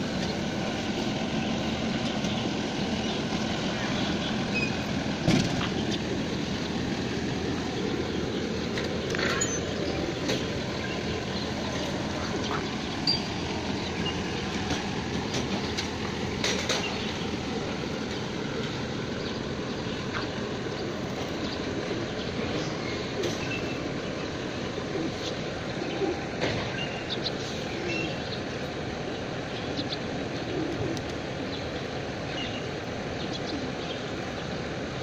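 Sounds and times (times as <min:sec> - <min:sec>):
low rumble with hiss: 0:00.0 - 0:35.0.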